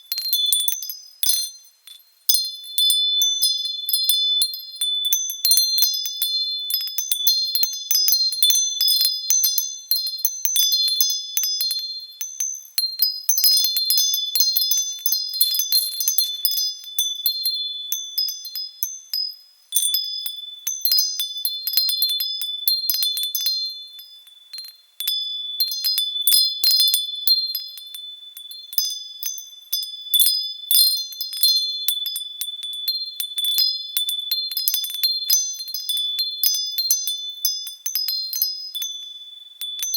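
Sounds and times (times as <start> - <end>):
wind chimes ringing: 0.0 - 39.9.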